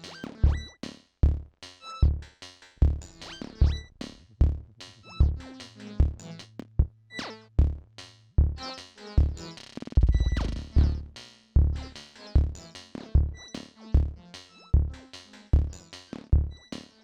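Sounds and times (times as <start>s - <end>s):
synth bass and keyboard notes: 0.0s - 0.7s, 2.8s - 15.8s
drum machine kick pulse: 0.2s - 7.0s, 7.6s - 14.2s, 14.8s - 16.9s.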